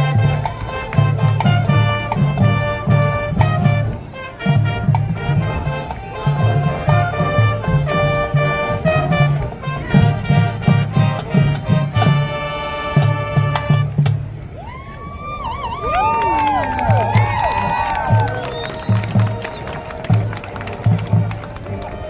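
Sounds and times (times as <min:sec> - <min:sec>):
steady drum beat: 0:00.0 - 0:14.5, 0:16.8 - 0:21.6
marching band brass playing: 0:00.0 - 0:14.6, 0:16.5 - 0:22.0.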